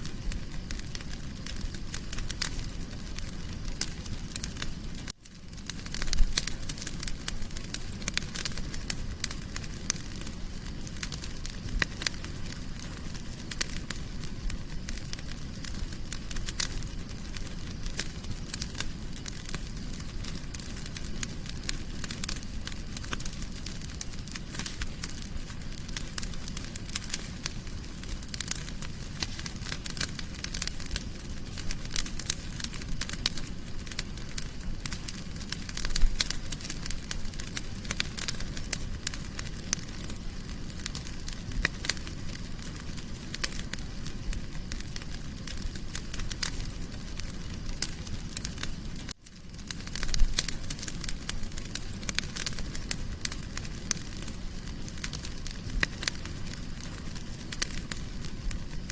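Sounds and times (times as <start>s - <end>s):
low rush of flames: 0.0s - 58.9s
wood fire crackling and popping: 0.0s - 58.9s.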